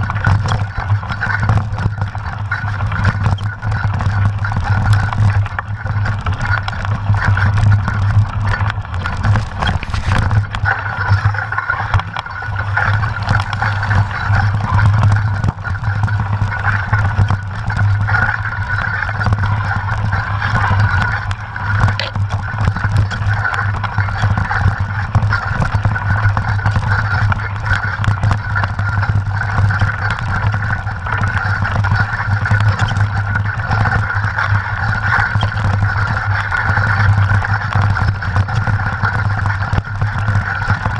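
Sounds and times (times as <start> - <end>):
bike rattling over bumps: 0.0 - 40.9
low hum of bike riding: 0.0 - 40.9.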